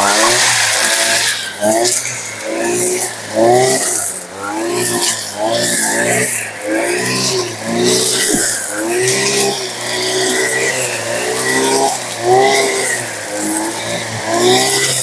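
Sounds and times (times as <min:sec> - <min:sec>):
brushcutter engine revving: 0:00.0 - 0:15.0
hiss of cutting grass: 0:00.0 - 0:15.0.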